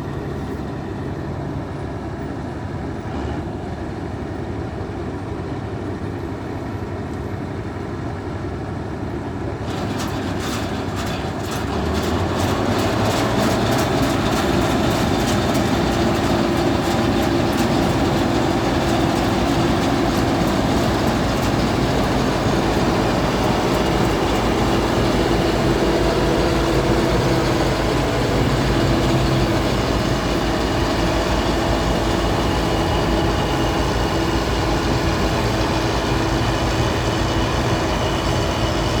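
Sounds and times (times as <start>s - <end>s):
combine harvester running: 0.0s - 39.0s.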